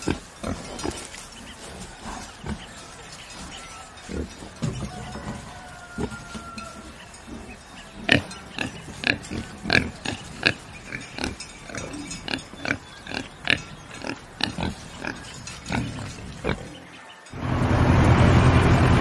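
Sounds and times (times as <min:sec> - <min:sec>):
pig grunting: 0:00.0 - 0:17.1.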